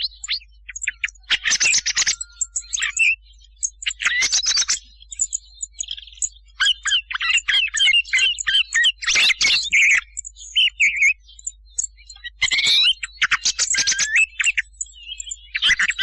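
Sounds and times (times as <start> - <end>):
thrush calls and song: 0.0 - 16.0.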